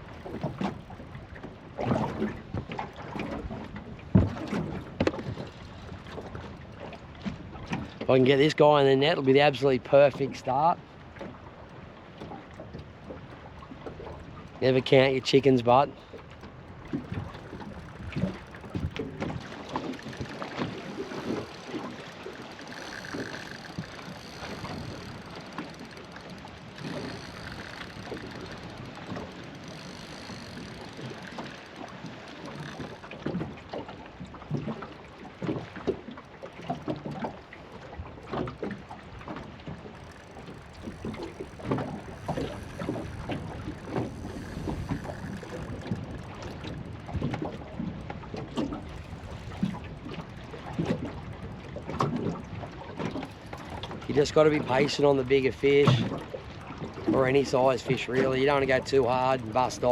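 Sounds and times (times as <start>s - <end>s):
water noise: 0.0s - 59.9s.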